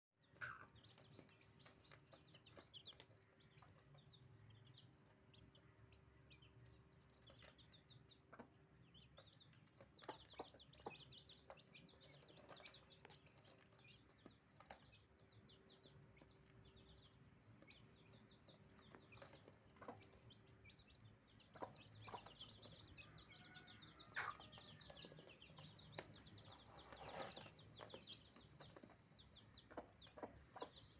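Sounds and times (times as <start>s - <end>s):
hen clucking: 0.2s - 4.6s, 6.8s - 30.9s
chicks peeping: 0.2s - 30.9s.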